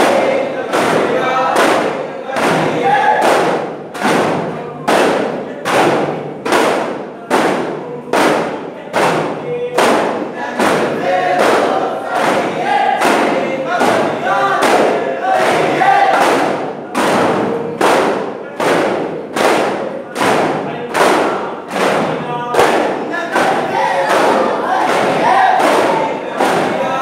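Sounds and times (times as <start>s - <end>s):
frame drums beating: 0.0s - 27.0s
men chanting together: 0.0s - 27.0s.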